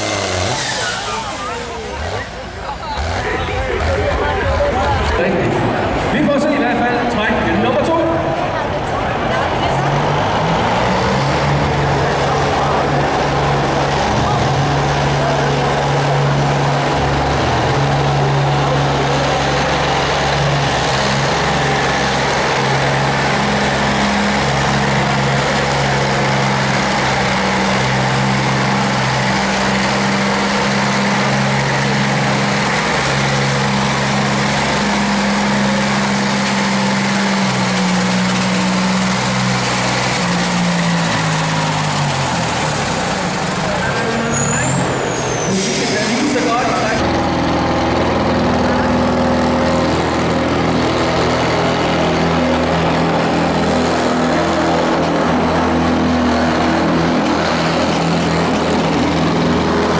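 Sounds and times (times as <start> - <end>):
diesel engine running at full load: 0.0 - 59.9.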